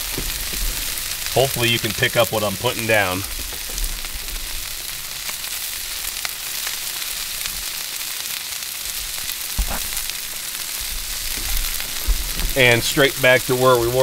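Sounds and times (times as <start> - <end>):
food sizzling on a griddle: 0.0 - 14.0.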